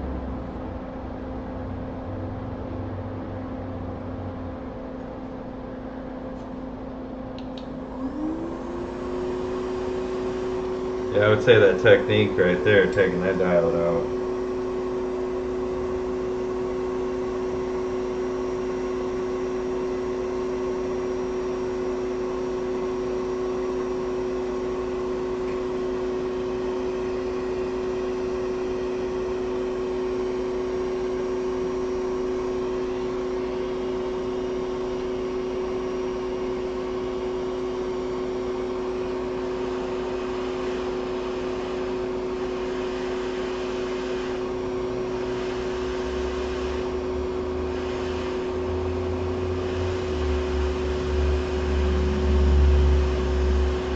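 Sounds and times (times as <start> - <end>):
electric fan whirring: 0.0 - 53.9.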